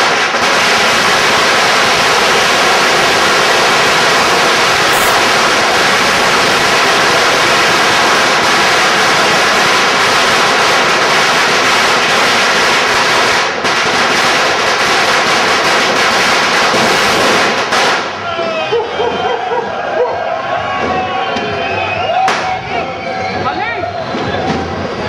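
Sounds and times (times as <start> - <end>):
firecrackers crackling: 0.0 - 25.0.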